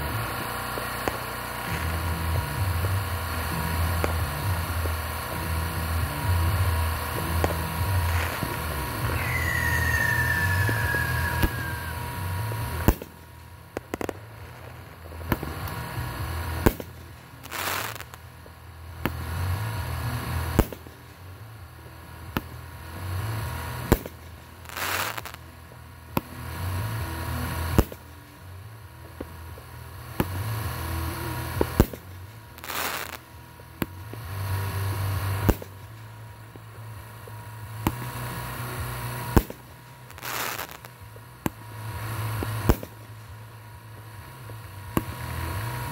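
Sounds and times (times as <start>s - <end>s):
low rumble: 0.0s - 45.9s
firework shells booming: 0.3s - 21.4s, 22.2s - 25.4s, 27.3s - 28.4s, 31.5s - 45.9s.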